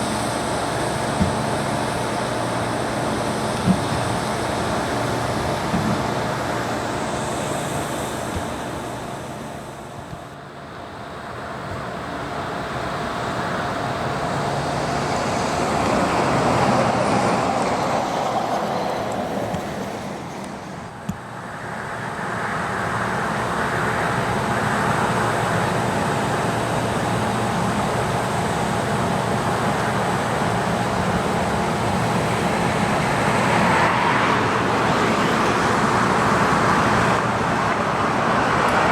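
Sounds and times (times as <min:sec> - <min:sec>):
passing road traffic: 0:00.0 - 0:38.9.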